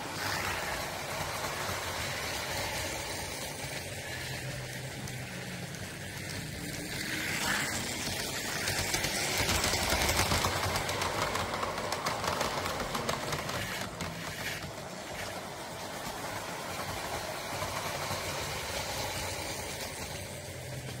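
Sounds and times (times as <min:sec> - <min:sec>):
model train wheels clicking and rattling: 0:00.0 - 0:21.0.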